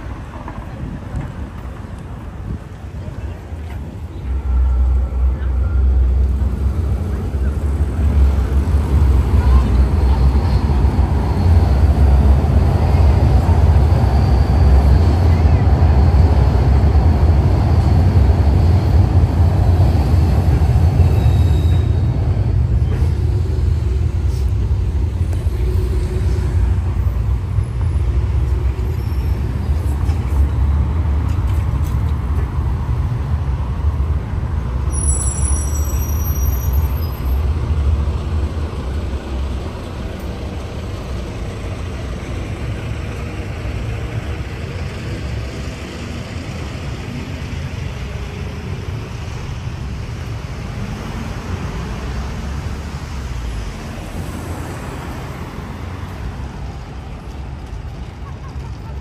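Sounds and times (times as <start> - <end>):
low city rumble: 0.0 - 59.0.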